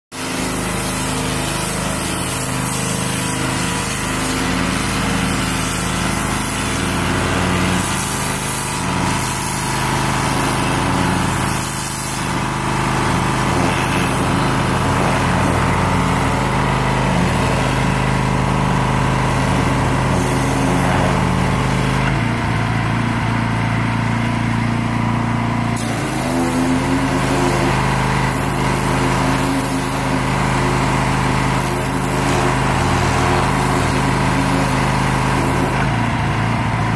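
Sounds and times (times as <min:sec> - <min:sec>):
pressure washer engine running: 0:00.1 - 0:36.9
high-pressure water spray hiss: 0:00.2 - 0:22.1, 0:25.8 - 0:36.1.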